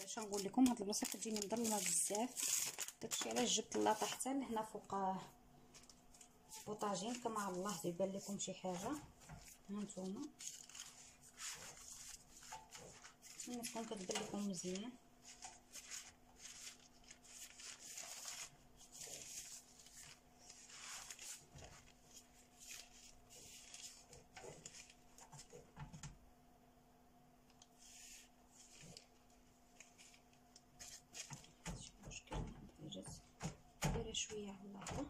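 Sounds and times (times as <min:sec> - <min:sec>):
baking paper rustling: 0:00.0 - 0:26.2, 0:27.8 - 0:33.6
faint steady hum: 0:00.0 - 0:35.0.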